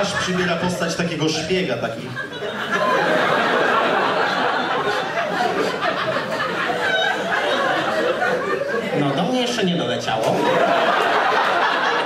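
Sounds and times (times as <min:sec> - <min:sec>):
crowd laughing: 0:00.0 - 0:12.0.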